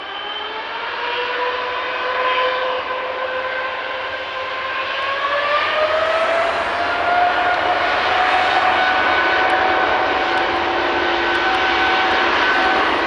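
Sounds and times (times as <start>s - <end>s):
jet engines spooling up: 0.0s - 13.0s.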